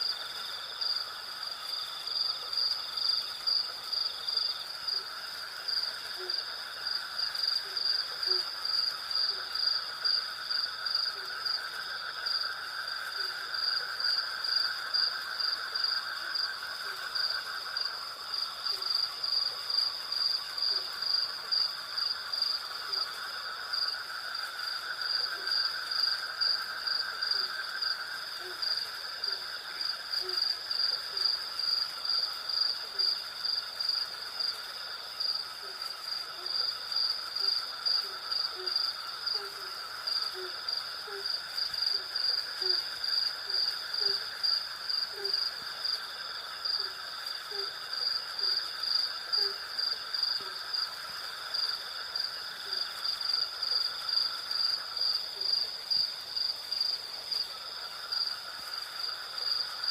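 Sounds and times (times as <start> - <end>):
crickets chirping: 0.0 - 59.9
insects trilling: 0.0 - 59.9.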